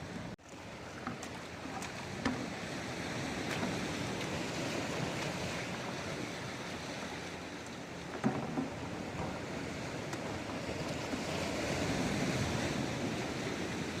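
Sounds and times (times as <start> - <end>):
waves washing onto rocky shore: 0.2 - 14.0.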